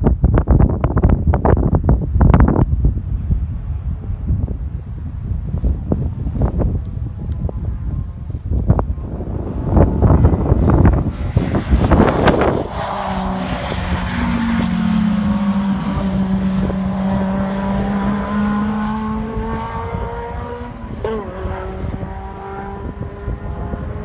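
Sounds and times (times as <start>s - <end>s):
wind buffeting microphone: 0.0s - 24.0s
droning race car engine: 3.6s - 24.0s.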